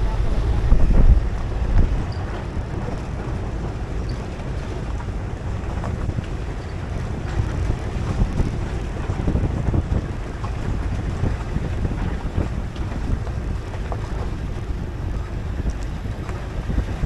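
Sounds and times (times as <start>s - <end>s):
vehicle low rumble: 0.0s - 17.0s
wind buffeting microphone: 0.0s - 17.0s.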